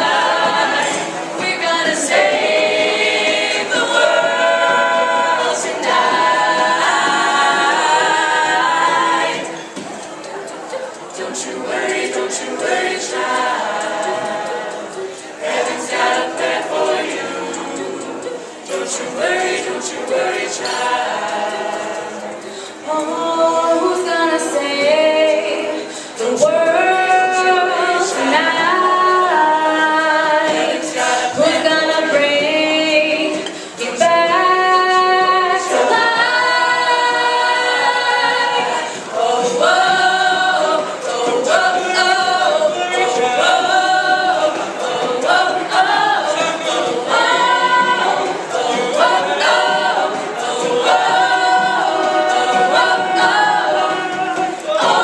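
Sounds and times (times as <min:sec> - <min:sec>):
vocal group singing in harmony: 0:00.0 - 0:55.0.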